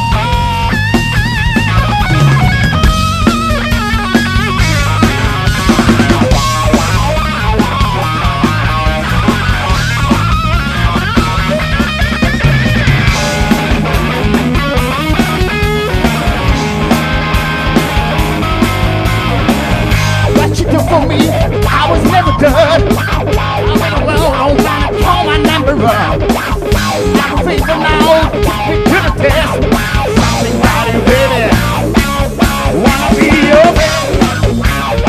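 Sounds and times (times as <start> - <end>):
drum kit: 0.0 - 35.0
electric bass: 0.0 - 35.0
electric guitar solo: 0.0 - 35.0.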